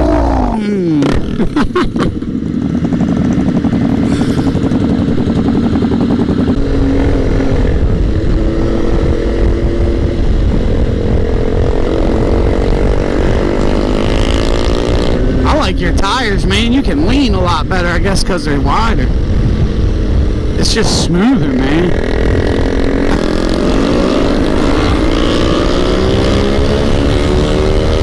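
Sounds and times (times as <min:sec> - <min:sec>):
low wind rumble: 0:00.0 - 0:28.0
motorcycle engine cruising: 0:00.0 - 0:28.0.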